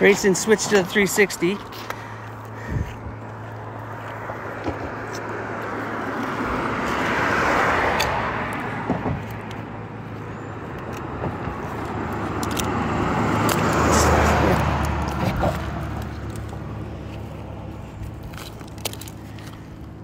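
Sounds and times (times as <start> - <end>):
car passing: 0.0 - 20.0
vehicle approaching: 0.0 - 20.0.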